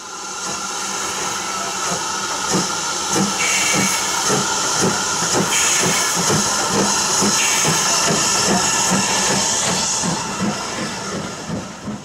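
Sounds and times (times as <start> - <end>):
steam hissing: 0.0 - 12.0
steam locomotive exhaust beats: 0.0 - 12.0.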